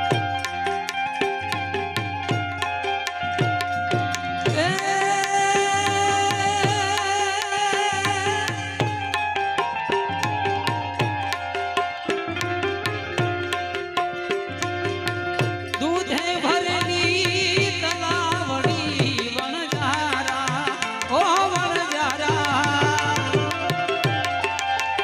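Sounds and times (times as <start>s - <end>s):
hand drum beat: 0.0s - 25.0s
harmonium notes: 0.0s - 25.0s
ornamented melody: 0.0s - 25.0s.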